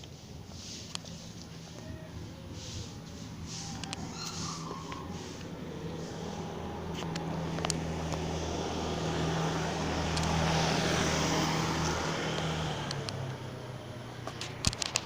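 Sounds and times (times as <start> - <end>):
motor vehicle passing: 0.2 - 15.0.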